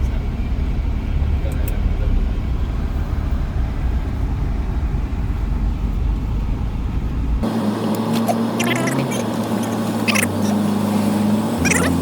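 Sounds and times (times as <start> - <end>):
vehicle cabin road rumble: 0.0 - 12.0.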